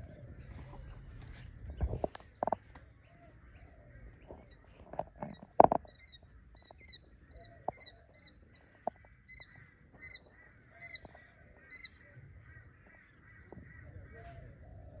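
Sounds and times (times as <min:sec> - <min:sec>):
lower rounder bird calls: 0:00.0 - 0:15.0
quail chicks peeping: 0:00.0 - 0:15.0.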